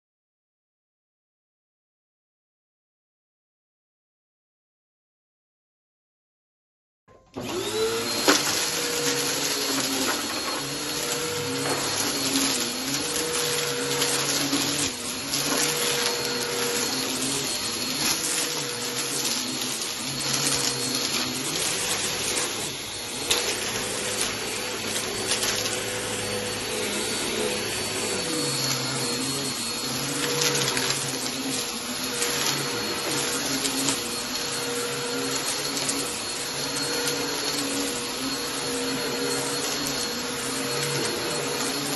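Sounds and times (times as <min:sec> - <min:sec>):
vacuum cleaner motor whine: 0:07.3 - 0:41.9.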